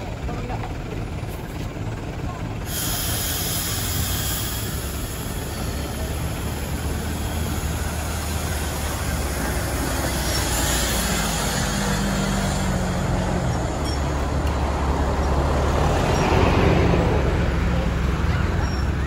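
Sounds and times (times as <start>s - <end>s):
bus diesel engine humming: 0.0s - 19.0s
road noise: 0.0s - 19.0s.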